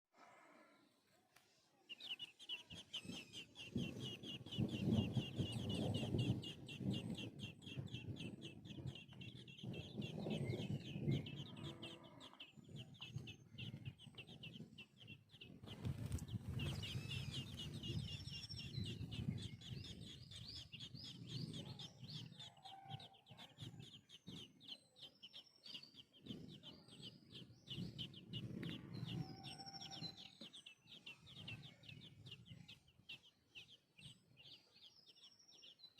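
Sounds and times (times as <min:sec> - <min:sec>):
baby birds peeping: 0:01.0 - 0:35.9.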